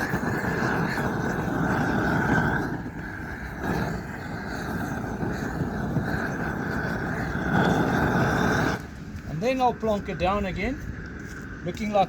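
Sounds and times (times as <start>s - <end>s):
gas torch rushing: 0.0s - 12.0s.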